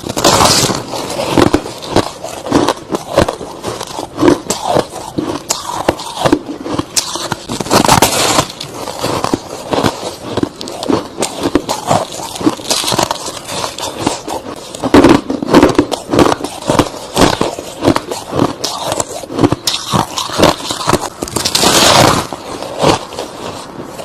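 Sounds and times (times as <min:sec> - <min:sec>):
chewing crushed ice: 0:00.0 - 0:24.0.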